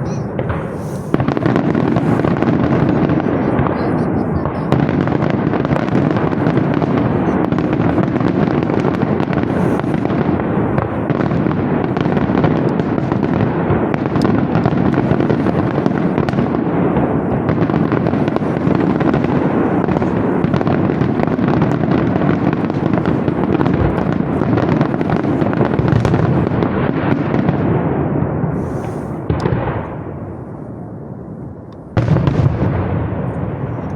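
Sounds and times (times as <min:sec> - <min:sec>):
fireworks bangs and crackle: 0:00.0 - 0:33.9.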